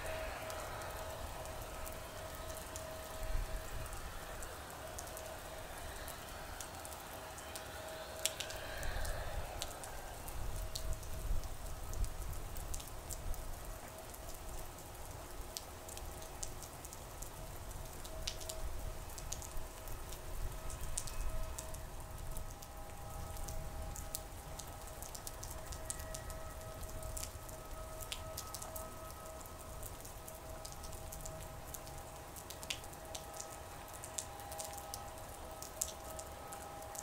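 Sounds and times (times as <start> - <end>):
faint steady whine: 0.0 - 37.0
steady rain: 0.0 - 37.0
raindrop ticks near microphone: 0.1 - 37.0.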